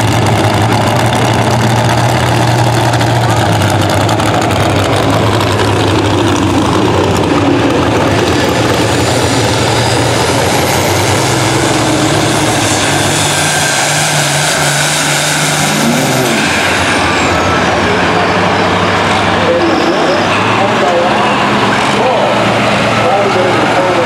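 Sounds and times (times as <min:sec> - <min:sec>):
engine running hard under load: 0:00.0 - 0:24.0
high whine: 0:00.0 - 0:24.0.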